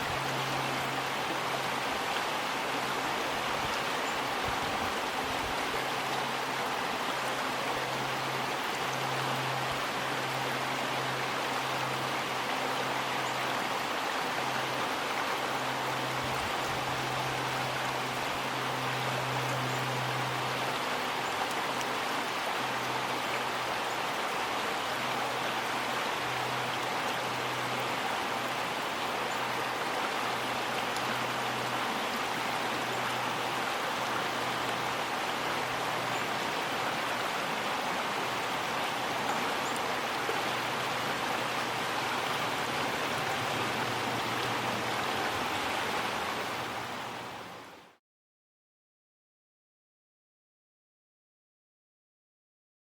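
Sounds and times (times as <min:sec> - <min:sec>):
river water flowing: 0:00.0 - 0:48.0.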